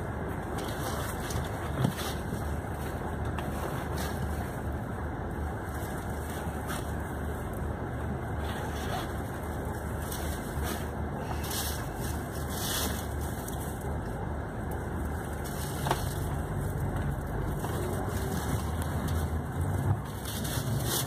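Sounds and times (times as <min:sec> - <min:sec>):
diesel engine rumble inside coach: 0:00.0 - 0:21.0.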